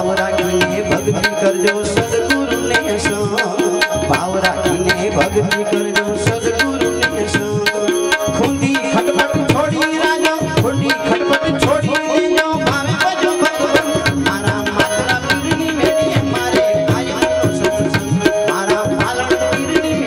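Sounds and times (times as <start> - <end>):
tabla playing fast rhythm: 0.0 - 20.0.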